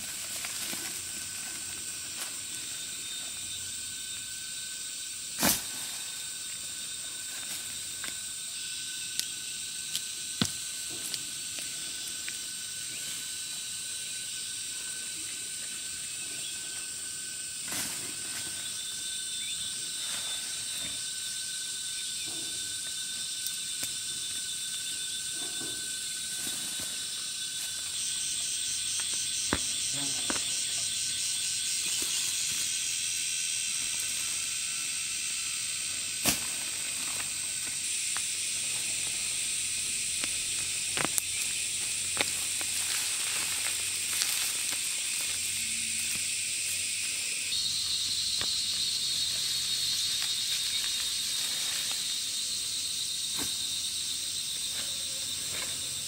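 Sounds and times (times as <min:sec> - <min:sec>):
insects chirring: 0:00.0 - 0:56.0
pulsing insect trill: 0:00.0 - 0:56.0.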